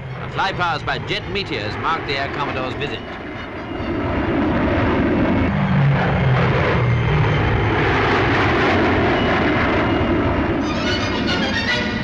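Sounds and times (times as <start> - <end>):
jet engines flying overhead: 0.0 - 12.0.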